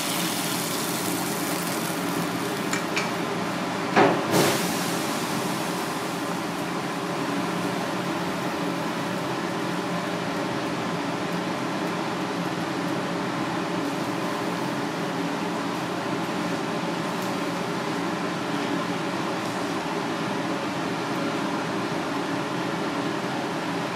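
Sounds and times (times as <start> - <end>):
ventilation fan whirring: 0.0 - 23.9.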